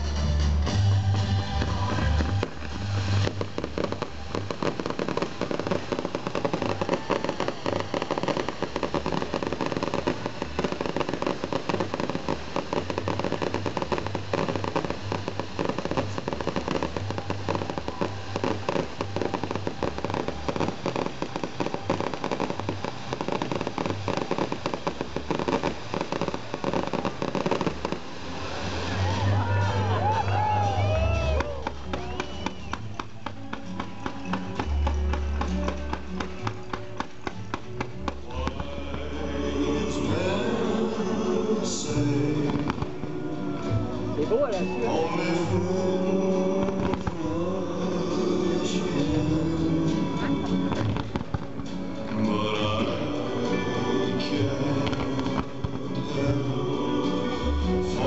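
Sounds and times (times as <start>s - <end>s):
fireworks crackling and popping: 0.0s - 58.0s.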